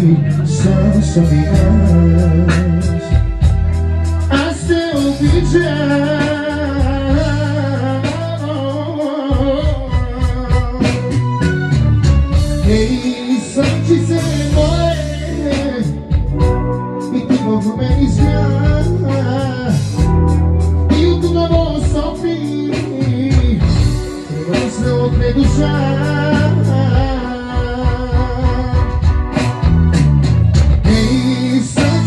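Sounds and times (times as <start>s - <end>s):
bass line: 0.0s - 32.0s
drum beats: 0.0s - 32.0s
keyboard melody: 0.0s - 32.0s.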